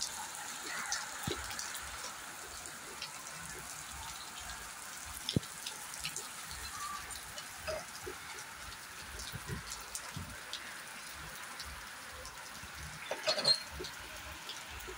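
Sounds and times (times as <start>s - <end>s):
heavy rain on concrete: 0.0s - 14.9s.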